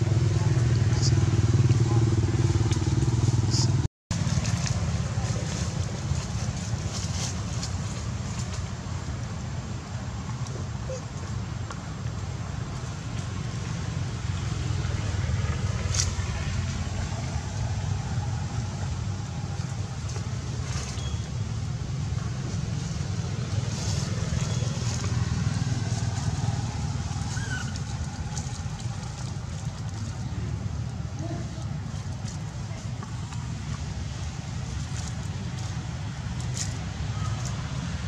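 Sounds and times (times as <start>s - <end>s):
low outdoor rumble: 0.0s - 38.0s.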